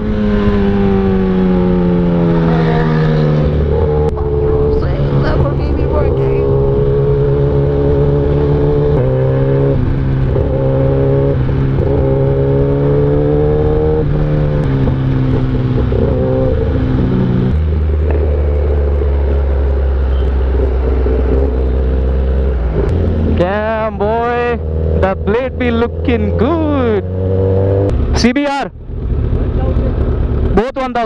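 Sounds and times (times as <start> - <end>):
motorcycle engine running: 0.0 - 30.7.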